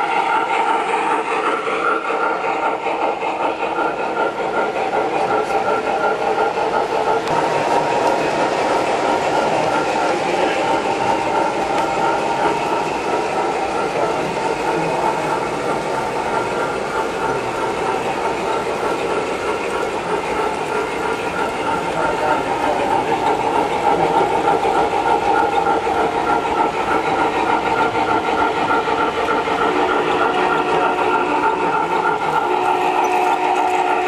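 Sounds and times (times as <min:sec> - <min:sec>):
model train wheels rumbling on track: 0:00.0 - 0:34.0.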